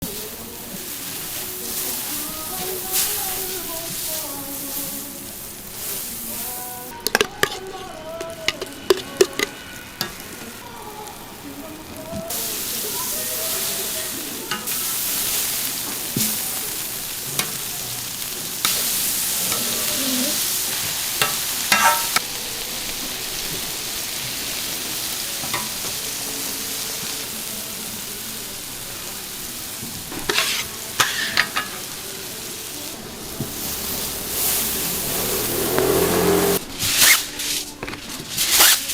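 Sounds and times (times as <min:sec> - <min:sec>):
food sizzling on a hot griddle: 0:00.0 - 0:38.9.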